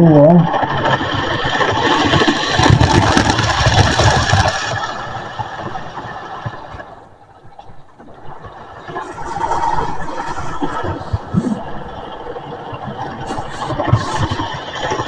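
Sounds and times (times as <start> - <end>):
wheels rattling on rail joints: 0.0 - 15.0.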